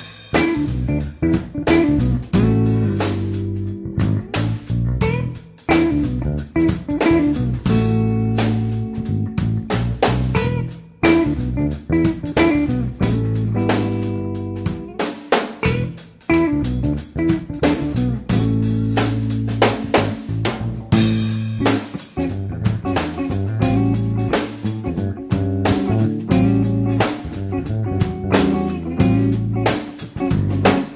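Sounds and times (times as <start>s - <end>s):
bass: 0.0s - 30.9s
drum kit: 0.0s - 30.9s
plucked guitar: 0.3s - 15.0s, 15.6s - 30.9s.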